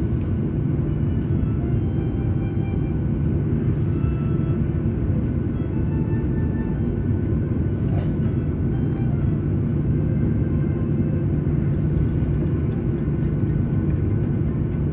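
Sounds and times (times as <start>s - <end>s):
aircraft engine rumble in cabin: 0.0s - 14.9s.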